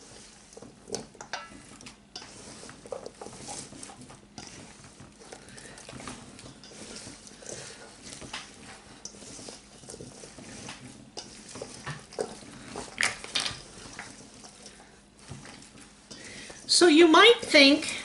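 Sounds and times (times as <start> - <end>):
hands squishing food mixture: 0.0 - 18.0.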